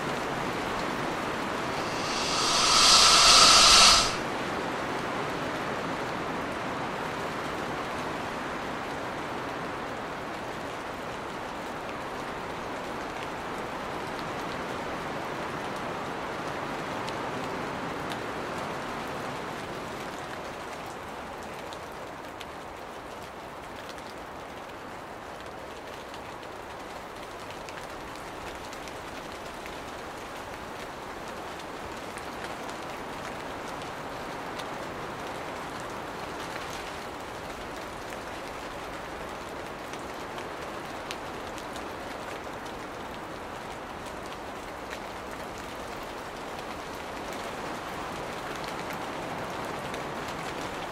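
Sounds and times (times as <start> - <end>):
steady rain-like hiss: 1.7 - 4.3, 8.8 - 50.9.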